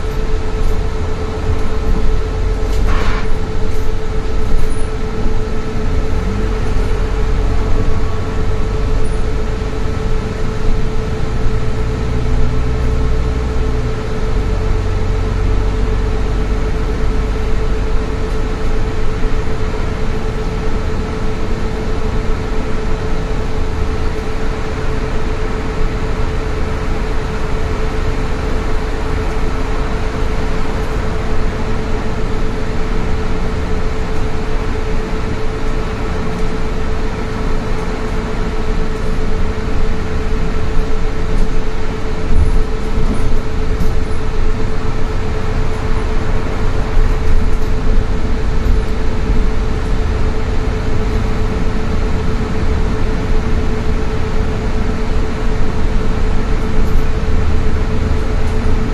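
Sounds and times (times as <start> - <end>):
constant hum: 0.0 - 58.9
engine and road rumble: 0.0 - 58.9.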